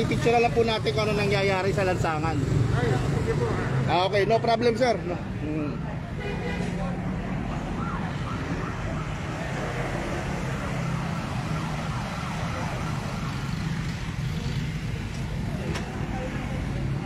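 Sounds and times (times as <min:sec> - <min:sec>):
motorcycle engines passing: 0:00.0 - 0:06.0, 0:06.7 - 0:17.0
car engines passing: 0:00.0 - 0:17.0.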